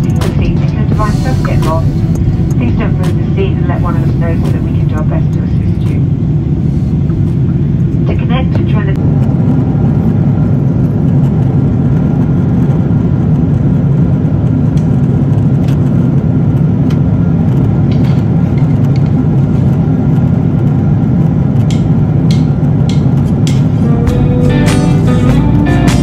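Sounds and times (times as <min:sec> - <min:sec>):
airplane cabin engine drone: 0:00.0 - 0:26.0.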